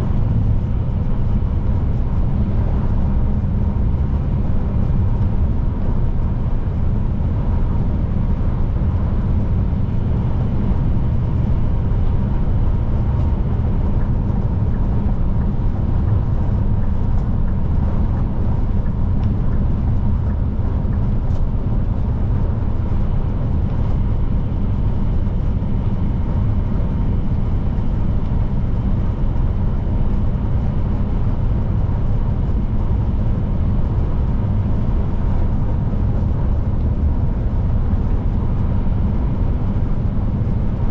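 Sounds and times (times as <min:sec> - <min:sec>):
truck engine and tyre rumble: 0:00.0 - 0:40.9.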